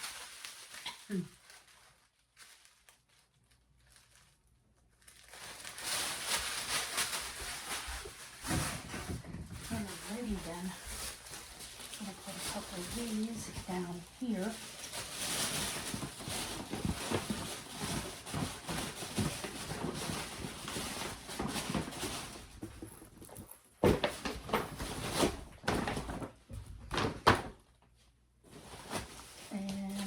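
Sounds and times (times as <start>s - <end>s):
rustling and scraping of packaging: 0.0s - 30.0s.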